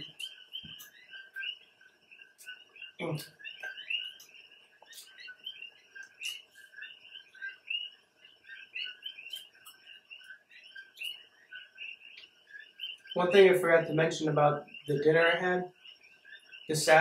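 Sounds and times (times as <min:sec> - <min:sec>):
coqui frogs chirping: 0:00.0 - 0:17.0.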